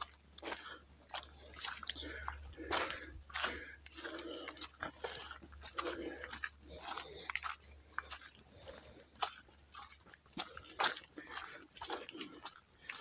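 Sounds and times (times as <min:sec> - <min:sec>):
footsteps crunching on wet gravel: 0:00.0 - 0:13.0.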